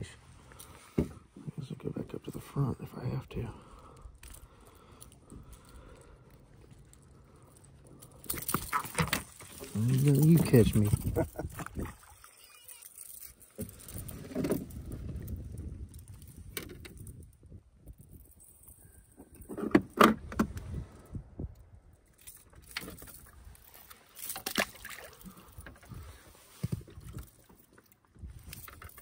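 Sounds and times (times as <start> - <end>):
fishing gear clattering on kayak: 3.7 - 20.5, 22.0 - 29.0.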